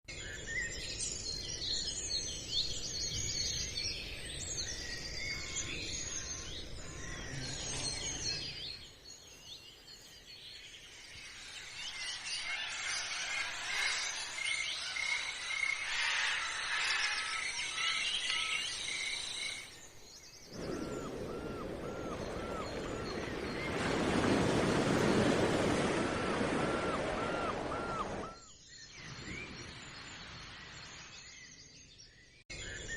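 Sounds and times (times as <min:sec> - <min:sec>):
small birds chirping: 0:00.2 - 0:32.9.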